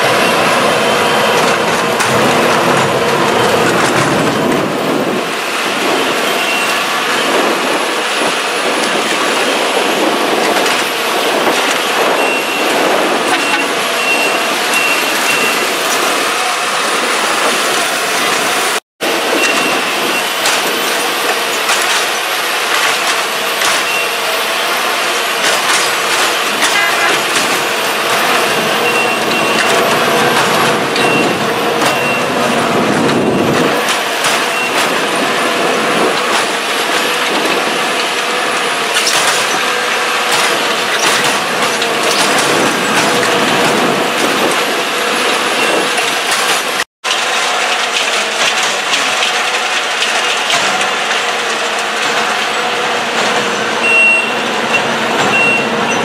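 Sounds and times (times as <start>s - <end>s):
hydraulic machine engine whining: 0.0s - 56.0s.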